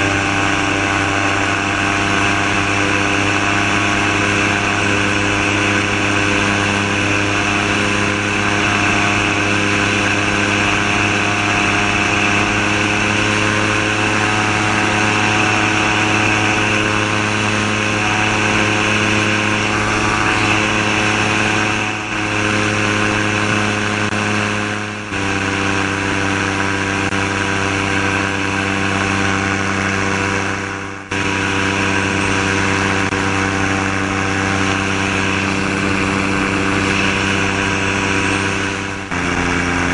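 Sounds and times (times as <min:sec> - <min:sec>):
gyrocopter engine at high power: 0:00.0 - 0:39.9.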